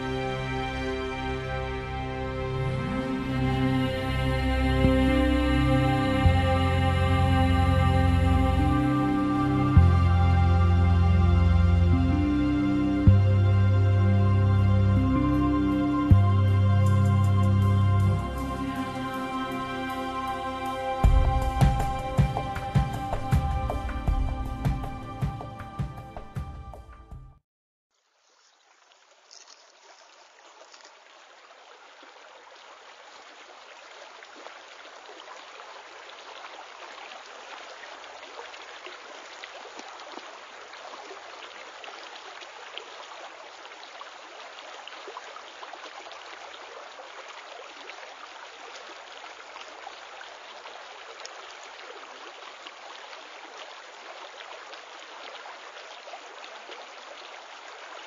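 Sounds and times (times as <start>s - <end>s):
running water: 0.0s - 26.2s, 27.9s - 58.0s.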